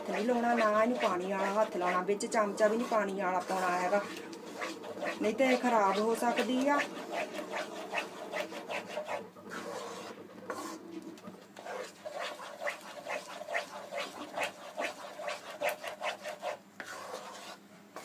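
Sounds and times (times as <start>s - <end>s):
spoon scraping and stirring in pan: 0.0s - 18.0s.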